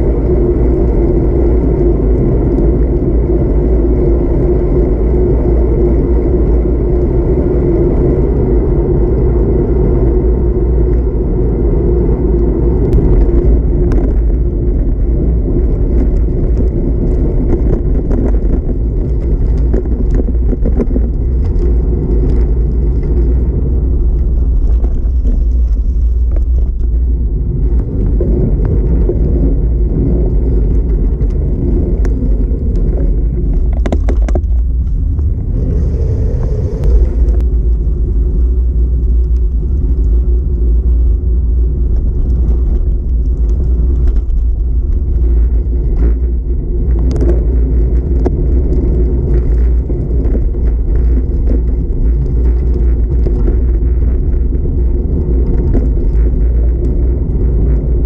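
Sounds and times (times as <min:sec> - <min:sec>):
bike tyre road noise: 0:00.0 - 0:58.0
wind buffeting microphone: 0:00.0 - 0:58.0.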